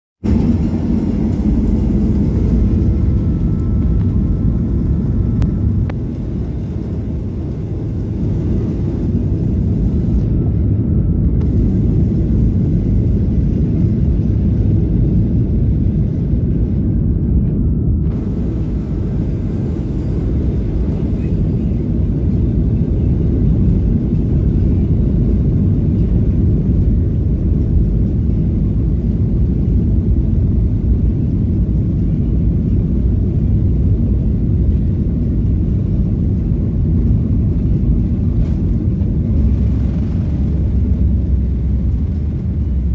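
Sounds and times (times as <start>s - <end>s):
jet airliner rumble in cabin: 0.2s - 42.9s.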